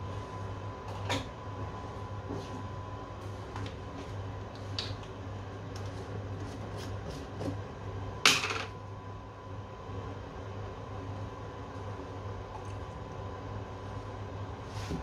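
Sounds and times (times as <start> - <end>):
lab equipment hum: 0.0 - 15.0.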